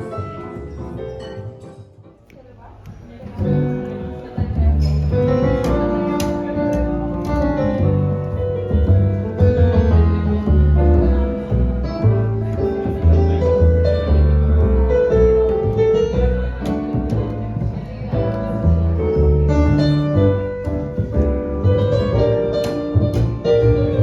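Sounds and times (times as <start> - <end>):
piano notes: 0.0 - 24.0
bass line: 3.4 - 24.0.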